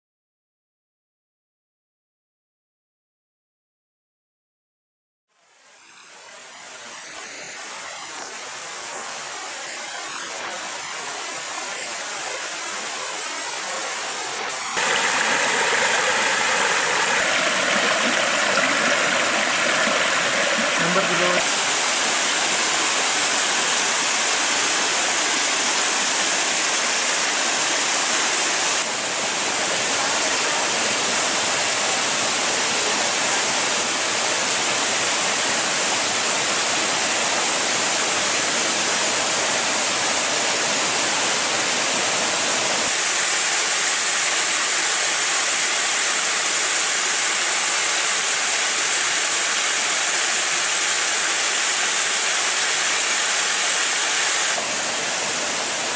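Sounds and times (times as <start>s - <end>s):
small waterfall pouring: 6.1s - 55.9s.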